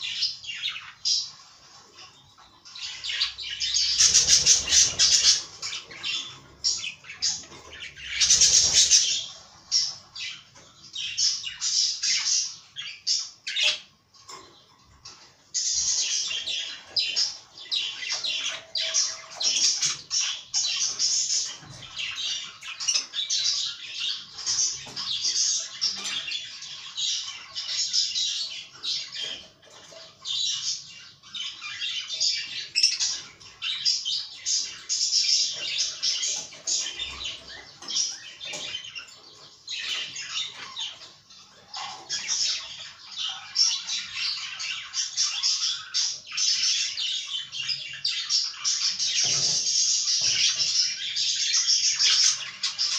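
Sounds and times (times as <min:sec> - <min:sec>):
budgerigars chattering: 0:02.6 - 0:14.0, 0:15.6 - 0:52.9.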